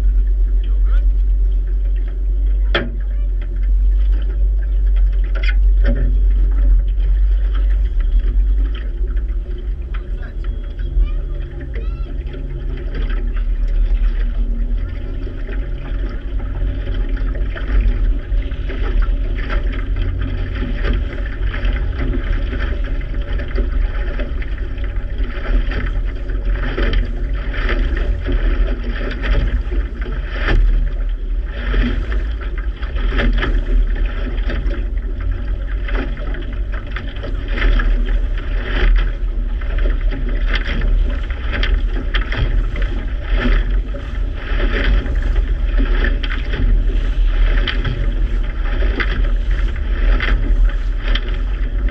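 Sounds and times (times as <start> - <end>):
steady low rumble: 0.0 - 51.9
water sloshing and splashing: 0.0 - 51.9.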